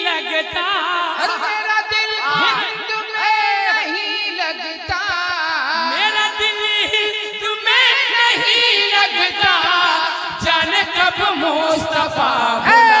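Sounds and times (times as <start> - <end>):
men singing devotional song: 0.0 - 13.0.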